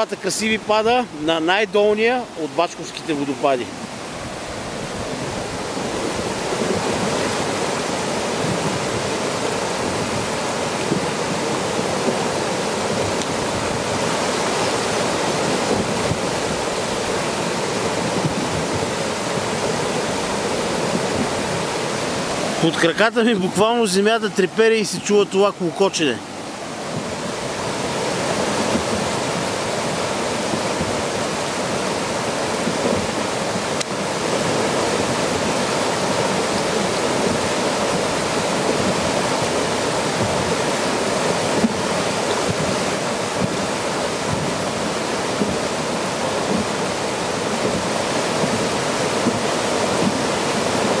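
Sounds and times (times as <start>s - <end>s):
spring water gurgling: 0.0s - 51.0s.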